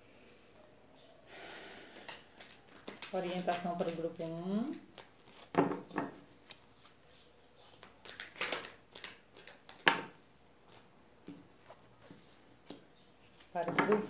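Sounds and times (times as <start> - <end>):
cards rustling as shuffled: 2.0 - 7.0, 7.6 - 14.0.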